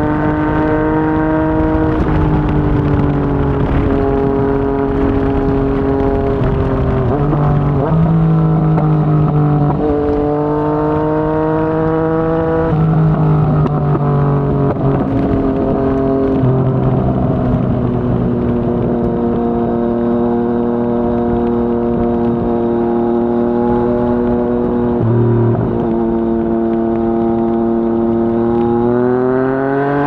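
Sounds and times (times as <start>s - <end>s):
motorcycle engine: 0.0s - 30.0s.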